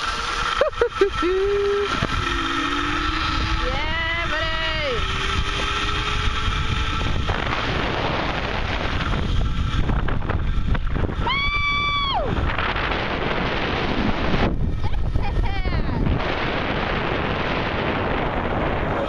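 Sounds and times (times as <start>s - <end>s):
zip line trolley whine: 0.0s - 19.0s
wind rushing over microphone: 1.7s - 19.0s.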